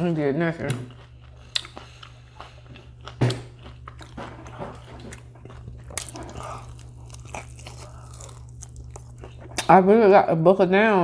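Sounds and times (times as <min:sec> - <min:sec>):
person chewing food: 0:00.0 - 0:09.9
steady low hum: 0:00.0 - 0:11.0.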